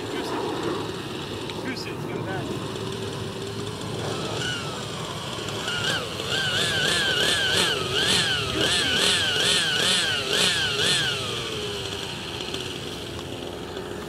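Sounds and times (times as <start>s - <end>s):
model helicopter engine surging: 0.0s - 14.0s.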